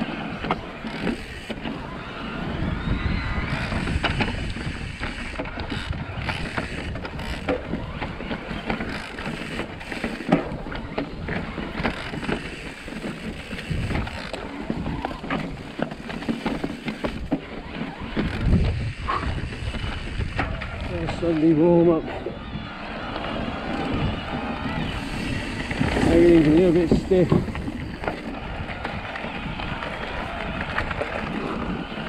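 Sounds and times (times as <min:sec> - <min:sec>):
bike tyres rumbling: 0:00.0 - 0:32.0
wind buffeting microphone: 0:00.0 - 0:32.0.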